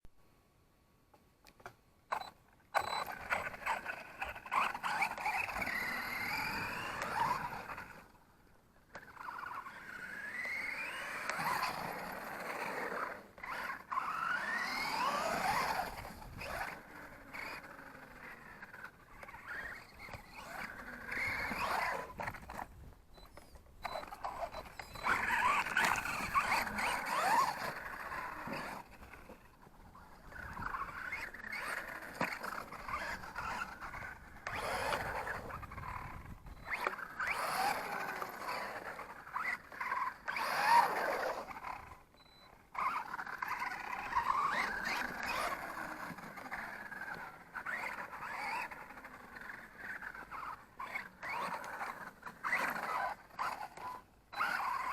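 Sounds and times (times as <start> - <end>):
electric motor whining: 2.1 - 8.2, 8.9 - 42.0, 42.7 - 54.9.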